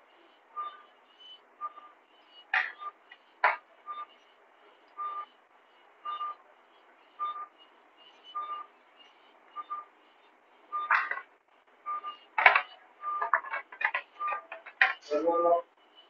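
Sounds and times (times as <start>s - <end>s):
patient monitor beeping: 0.0s - 16.0s.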